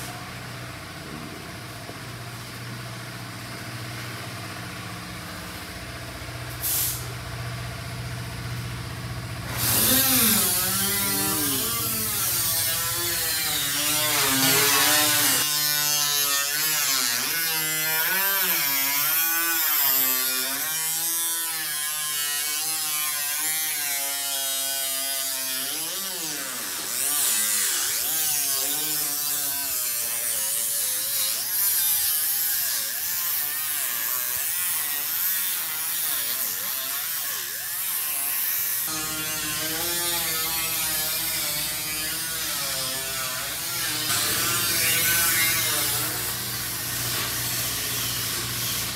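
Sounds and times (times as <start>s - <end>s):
air grinder whining on sheet metal: 9.4s - 48.9s.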